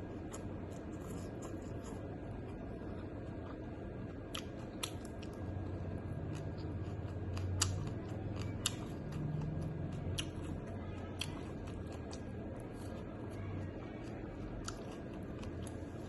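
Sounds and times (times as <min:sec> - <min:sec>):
food being chewed: 0:00.0 - 0:16.0.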